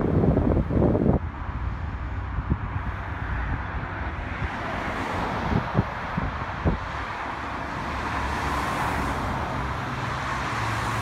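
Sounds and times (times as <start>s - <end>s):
road traffic rumble: 0.0s - 11.0s
wind buffeting microphone: 0.0s - 11.0s.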